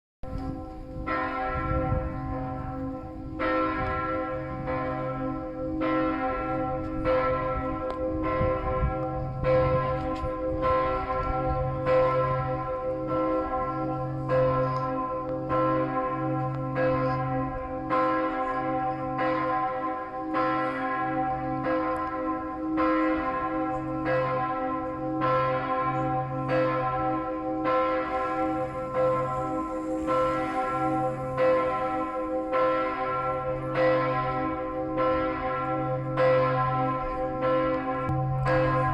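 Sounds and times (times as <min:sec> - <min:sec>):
church bells ringing: 0:00.2 - 0:38.9.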